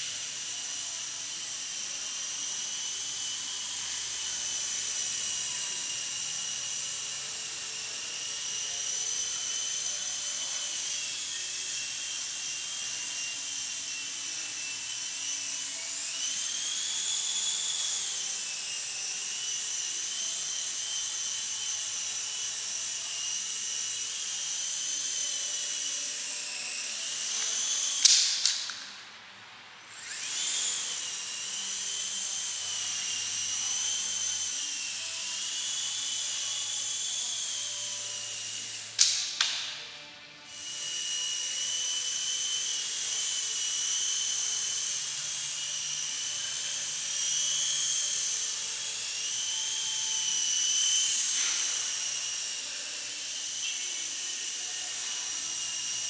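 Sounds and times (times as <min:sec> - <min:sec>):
rc helicopter motors whining: 0:00.0 - 0:29.0, 0:29.8 - 0:56.0.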